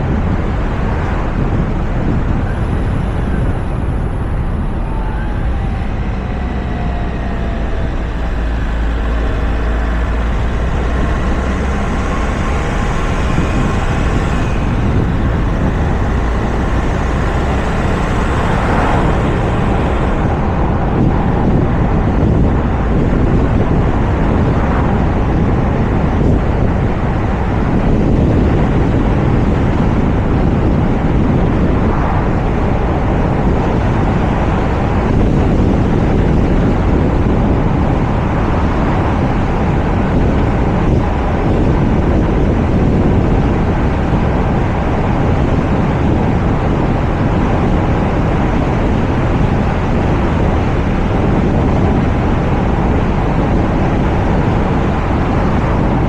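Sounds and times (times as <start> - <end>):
tyre and road noise: 0.0 - 56.0
wind buffeting microphone: 0.0 - 56.0.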